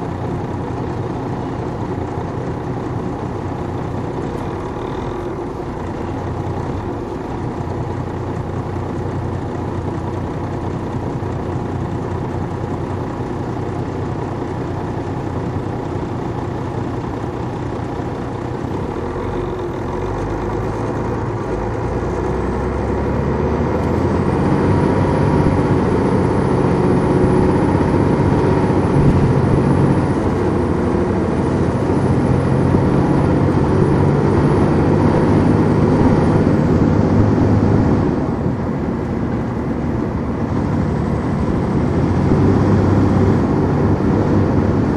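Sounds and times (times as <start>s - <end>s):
diesel coach engine running: 0.0s - 44.9s.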